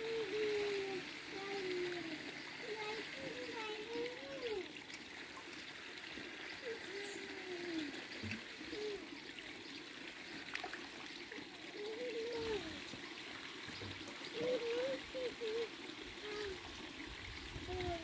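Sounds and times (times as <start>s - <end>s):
pond water trickling and splashing: 0.0s - 18.0s.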